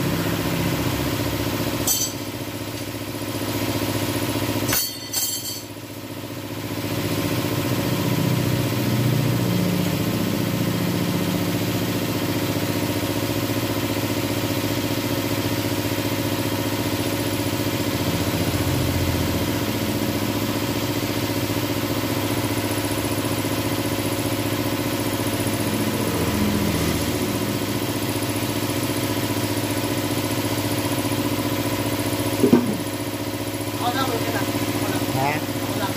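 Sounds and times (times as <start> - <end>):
engine humming steadily: 0.0 - 35.9.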